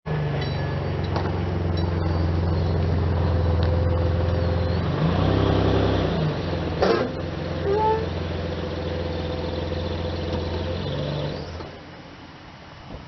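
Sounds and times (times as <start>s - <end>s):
vehicle engine running: 0.1s - 12.1s.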